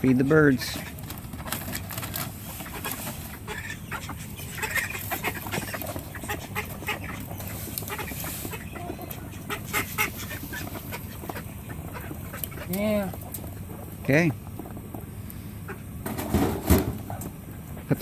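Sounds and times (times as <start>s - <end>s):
ducks quacking: 0.0s - 14.0s, 15.5s - 16.0s
chickens clucking: 0.0s - 18.0s.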